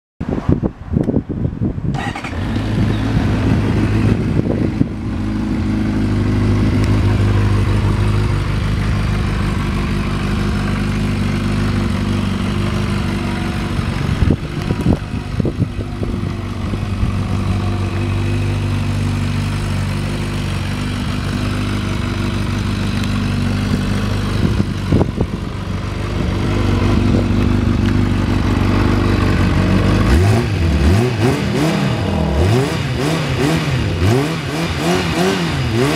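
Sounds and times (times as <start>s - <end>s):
motorcycle engine idling: 2.1s - 34.0s.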